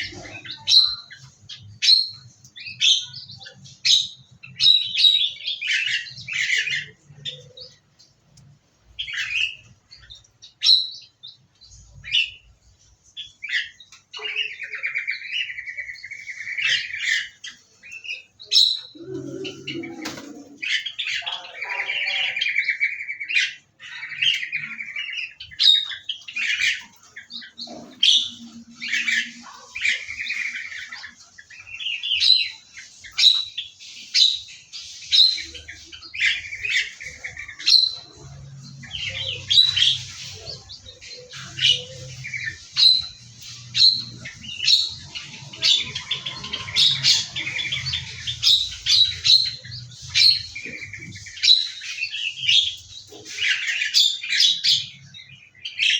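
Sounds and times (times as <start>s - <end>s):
buzzy twittering bird calls: 0.0s - 55.9s
small birds chirping: 0.0s - 55.9s.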